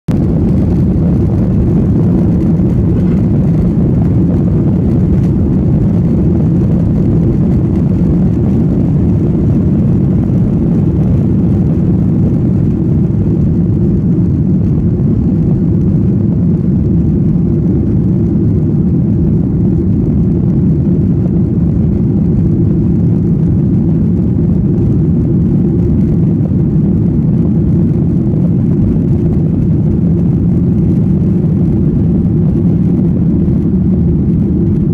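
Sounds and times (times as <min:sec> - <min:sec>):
jet engines rumbling in cabin: 0:00.1 - 0:34.9.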